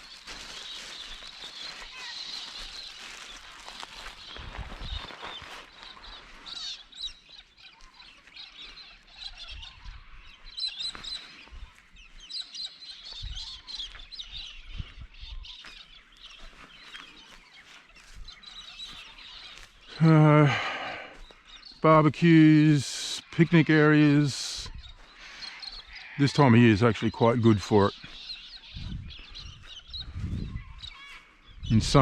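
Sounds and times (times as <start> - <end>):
birds chirping and calling: 0.0 - 32.0.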